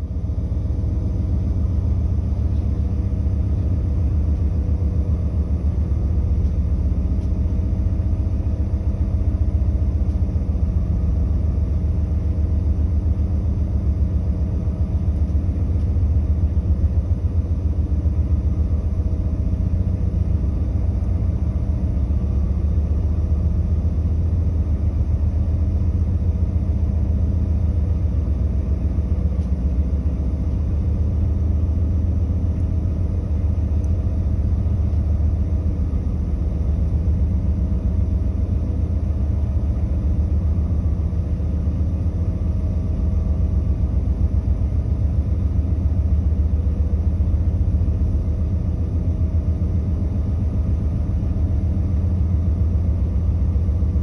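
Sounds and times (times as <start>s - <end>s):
ship engine rumble: 0.0s - 54.0s
wind: 0.0s - 54.0s.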